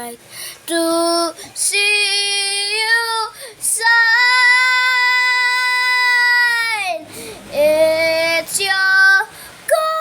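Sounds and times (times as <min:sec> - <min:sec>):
child singing unaccompanied: 0:00.0 - 0:10.0.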